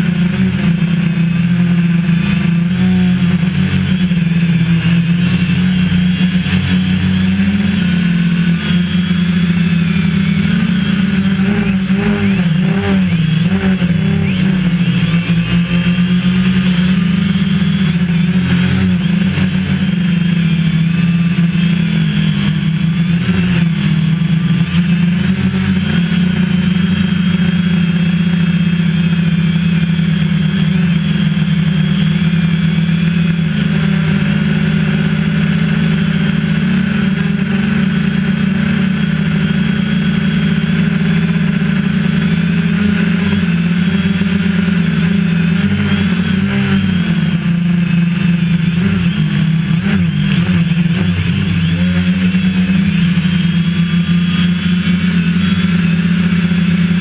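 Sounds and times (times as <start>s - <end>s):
quadcopter propellers buzzing: 0.0s - 57.0s.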